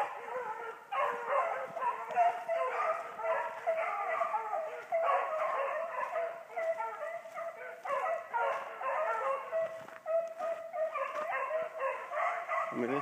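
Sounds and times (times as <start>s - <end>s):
dogs baying: 0.0s - 13.0s.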